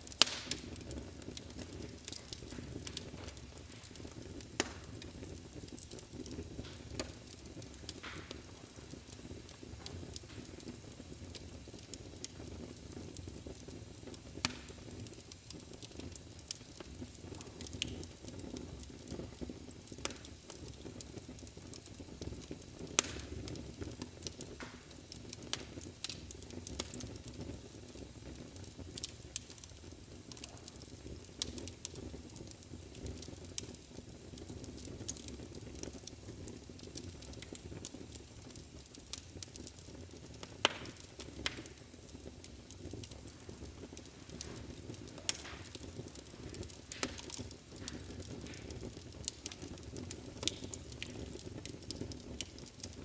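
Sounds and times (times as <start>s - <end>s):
wood fire crackling in fireplace: 0.0s - 53.0s.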